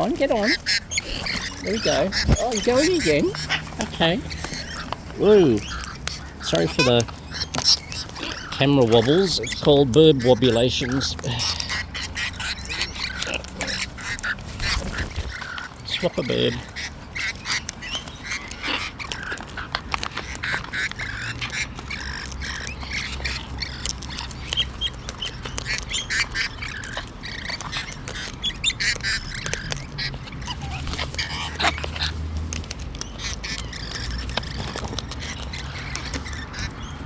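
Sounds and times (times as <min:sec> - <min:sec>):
parrots chattering and squawking: 0:00.0 - 0:37.0
small clicks and bumps: 0:00.0 - 0:37.0.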